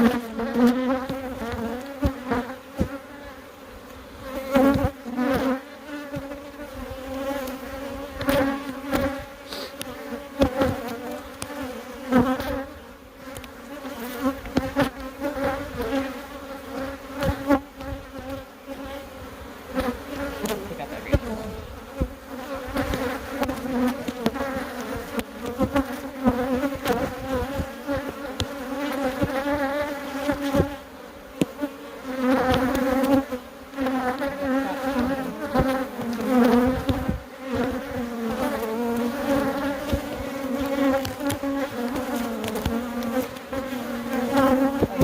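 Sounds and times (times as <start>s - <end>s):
honeybees buzzing: 0.0s - 45.0s.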